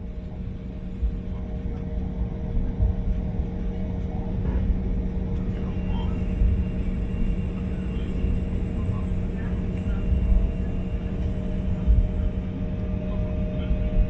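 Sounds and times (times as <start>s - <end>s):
jet engines and cabin hum: 0.0s - 14.0s.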